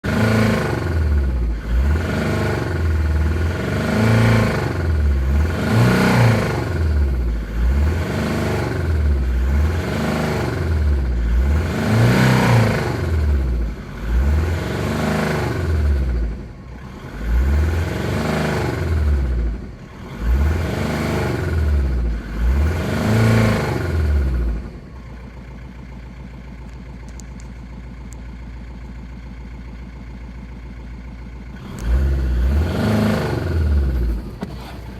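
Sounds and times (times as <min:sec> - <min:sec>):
car engine revving and idling: 0:00.0 - 0:34.9.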